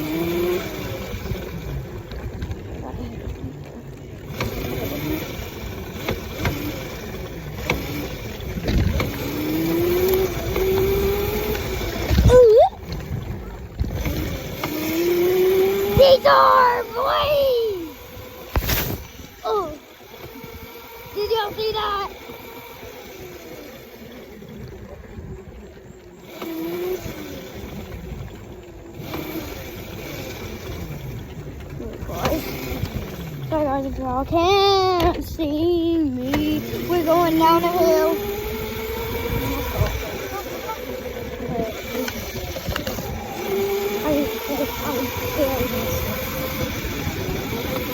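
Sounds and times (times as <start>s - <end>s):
small motorbike engine: 0.0s - 47.9s
wind rumbling on microphone: 0.0s - 47.9s.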